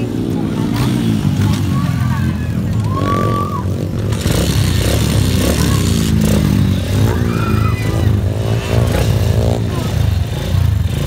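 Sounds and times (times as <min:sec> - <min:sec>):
racing motorcycle engines revving: 0:00.0 - 0:11.0.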